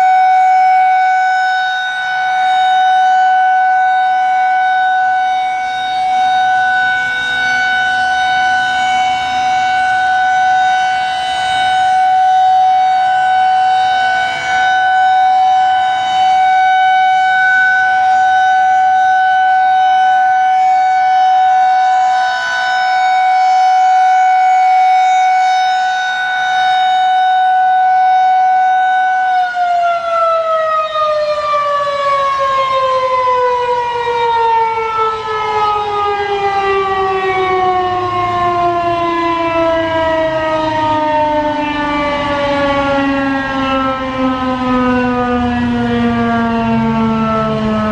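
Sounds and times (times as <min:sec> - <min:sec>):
siren winding down: 0:00.0 - 0:47.9
warning siren steady tone: 0:00.0 - 0:47.9.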